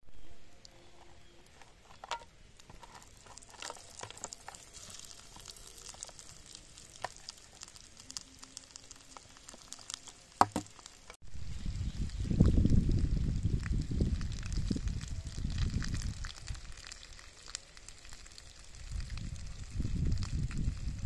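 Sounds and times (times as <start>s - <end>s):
fish sizzling in hot oil: 2.4s - 21.0s.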